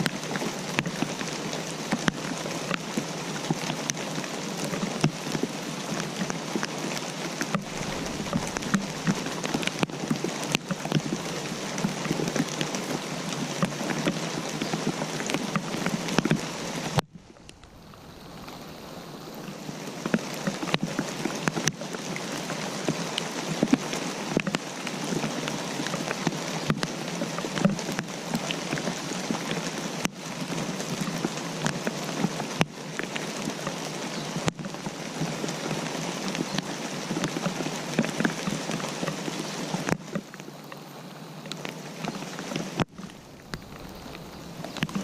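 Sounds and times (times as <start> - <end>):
steady rain falling: 0.0 - 45.0.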